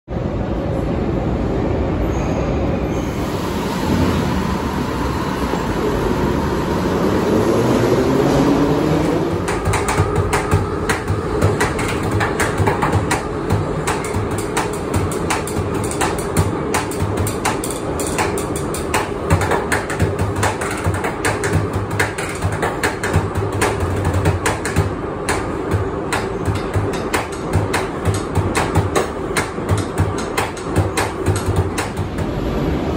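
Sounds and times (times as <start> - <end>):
train wheels rumbling on rail: 0.1 - 32.9.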